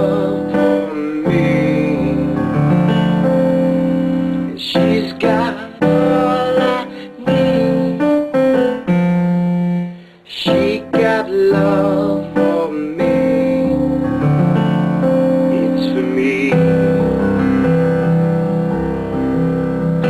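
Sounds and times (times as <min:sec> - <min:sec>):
electric piano chords: 0:00.0 - 0:20.0.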